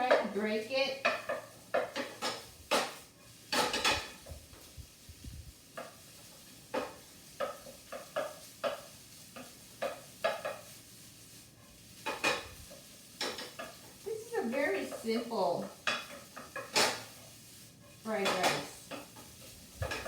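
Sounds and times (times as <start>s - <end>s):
faint sizzle: 0.0s - 20.0s
utensil tapping and scraping in pan: 0.0s - 20.0s.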